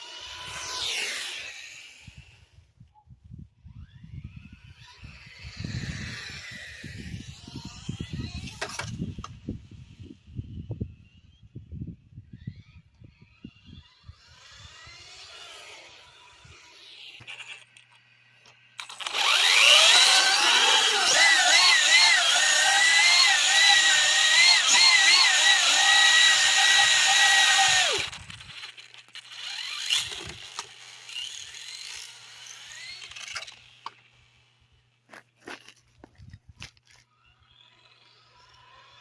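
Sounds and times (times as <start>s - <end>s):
rc truck motor whining: 0.0s - 39.0s.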